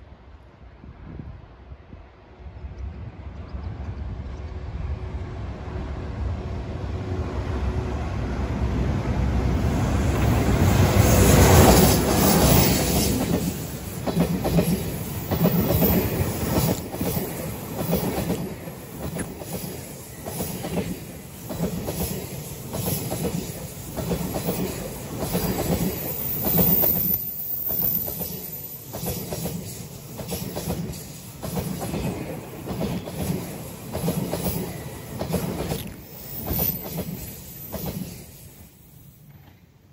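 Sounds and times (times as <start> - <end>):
electric locomotive passing: 0.0 - 39.9.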